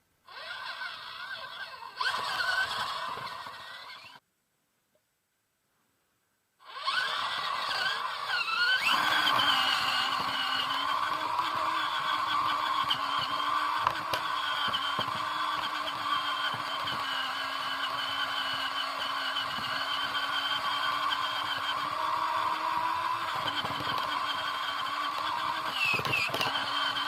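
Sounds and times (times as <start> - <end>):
rc car motor whining: 0.3 - 4.2, 6.6 - 27.0.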